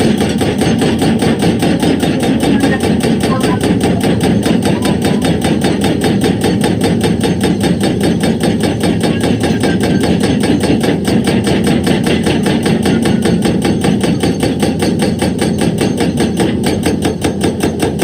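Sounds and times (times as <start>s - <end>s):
diesel engine running: 0.0s - 18.0s
hydraulic breaker hammering rock: 0.0s - 18.0s.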